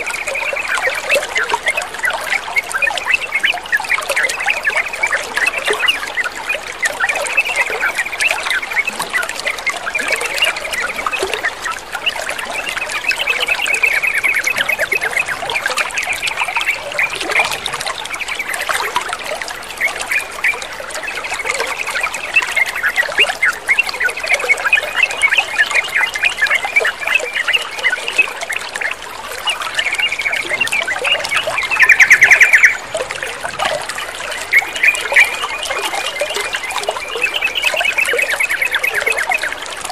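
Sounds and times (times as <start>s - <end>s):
birds chattering and singing: 0.0s - 39.6s
trickling water: 0.0s - 39.9s.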